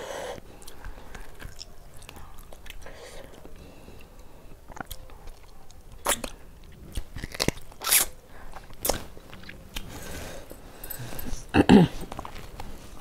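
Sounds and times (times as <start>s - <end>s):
person chewing food: 0.3s - 11.5s.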